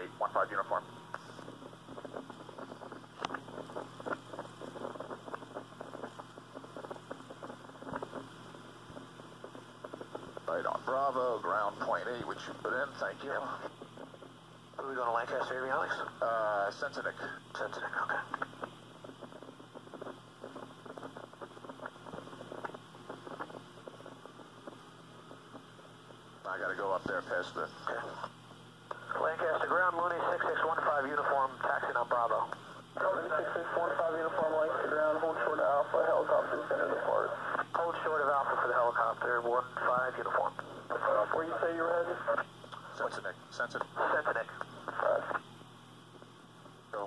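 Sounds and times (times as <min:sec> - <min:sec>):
faint crackling and ticking: 0:00.0 - 0:47.0
steady low intercom hum: 0:00.0 - 0:47.0.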